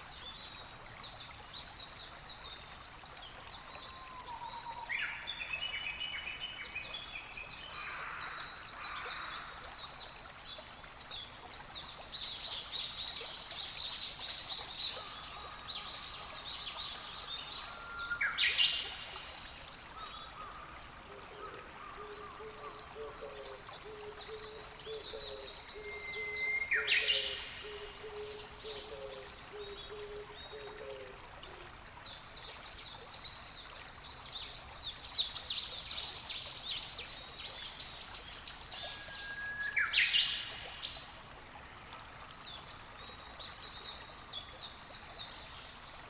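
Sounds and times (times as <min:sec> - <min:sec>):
birds twittering song: 0:00.0 - 0:46.0.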